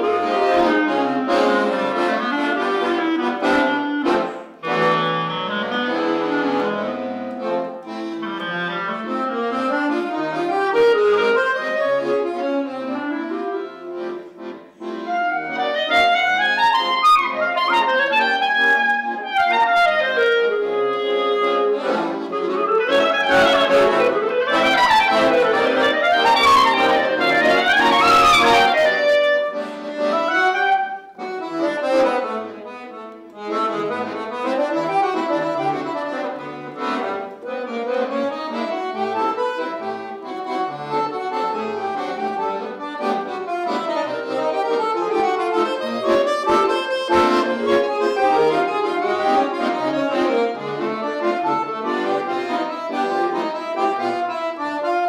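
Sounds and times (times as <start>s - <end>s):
clarinet: 0.0s - 55.0s
piano accordion: 0.0s - 55.0s.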